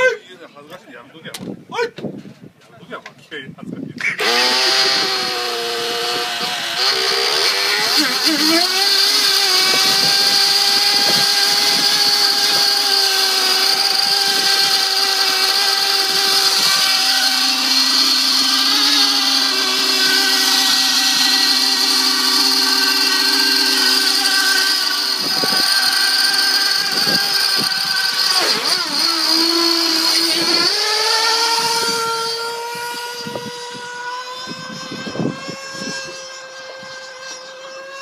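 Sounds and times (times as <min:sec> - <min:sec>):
model boat engine buzzing: 0:04.0 - 0:38.0.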